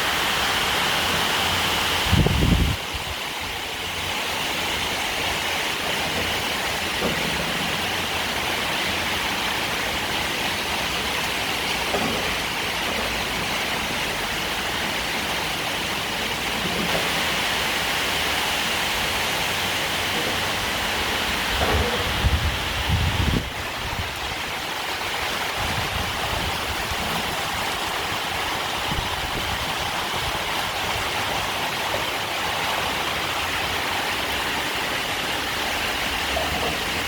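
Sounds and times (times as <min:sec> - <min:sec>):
torrential rain pouring: 0:00.0 - 0:37.0.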